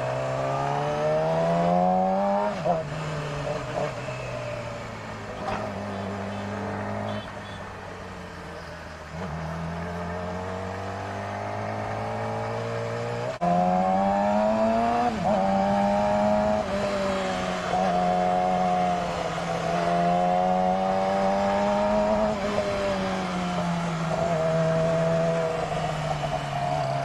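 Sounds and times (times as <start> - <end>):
motorcycle engine revving: 0.0 - 7.6, 8.5 - 27.0.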